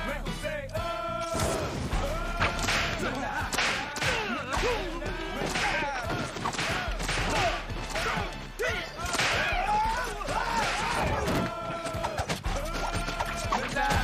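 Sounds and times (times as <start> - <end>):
people yelping and shouting: 0.0 - 14.0.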